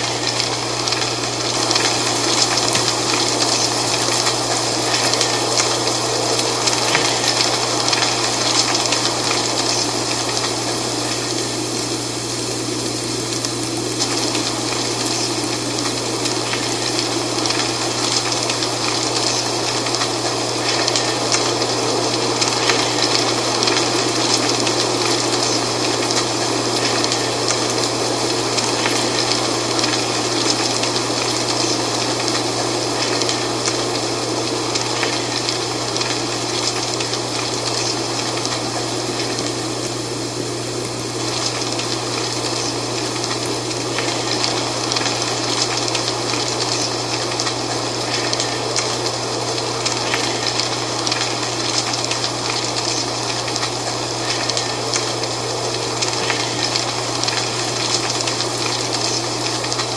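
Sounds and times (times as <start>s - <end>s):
dry leaves rustling in wind: 0.0s - 59.9s.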